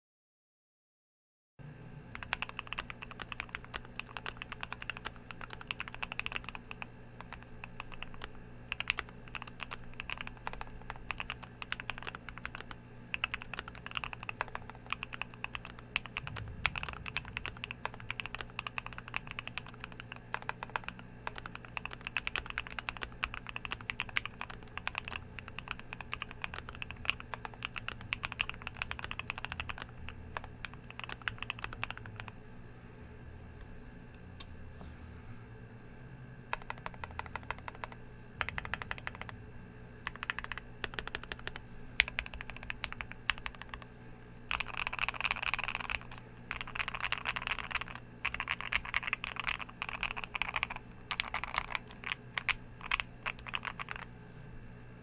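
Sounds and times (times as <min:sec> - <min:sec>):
mechanical keyboard typing: 0:02.1 - 0:32.3, 0:36.5 - 0:39.4, 0:40.0 - 0:43.9, 0:44.5 - 0:54.1.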